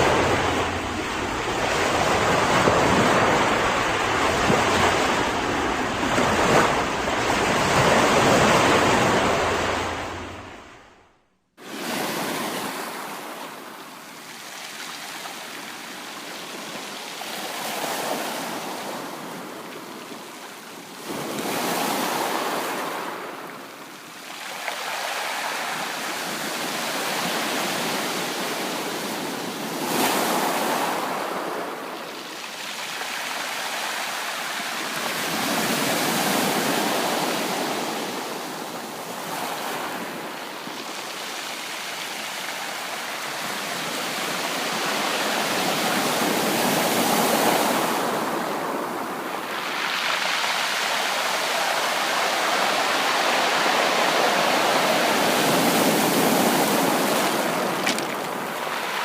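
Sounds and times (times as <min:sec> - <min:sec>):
ocean waves breaking: 0:00.0 - 0:23.6, 0:24.2 - 0:59.0.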